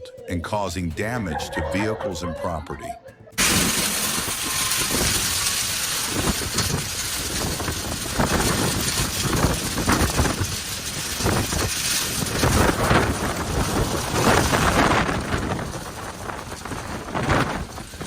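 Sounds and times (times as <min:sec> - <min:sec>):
hail and rain falling: 0:03.3 - 0:18.0
wind gusting against microphone: 0:03.3 - 0:18.0.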